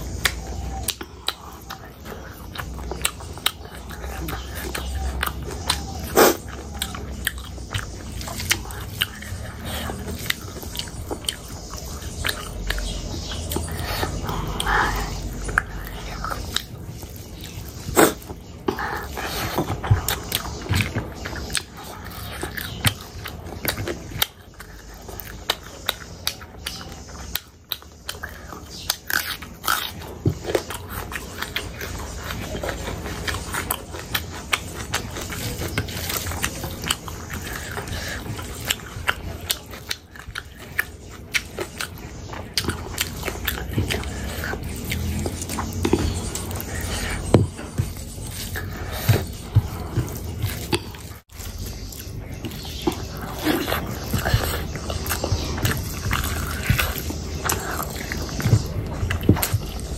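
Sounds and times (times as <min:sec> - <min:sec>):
wet chewing and smacking: 0:00.0 - 0:59.9.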